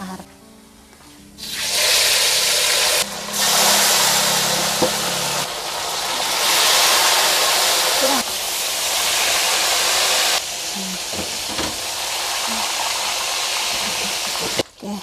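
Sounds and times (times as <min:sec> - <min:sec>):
fish sizzling in hot oil: 0:01.4 - 0:14.6.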